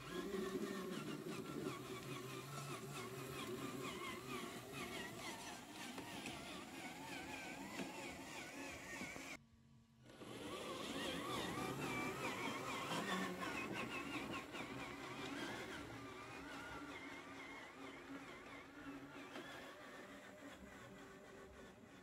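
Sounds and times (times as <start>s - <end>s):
rc truck motor whirring: 0.0s - 9.4s, 10.0s - 22.0s.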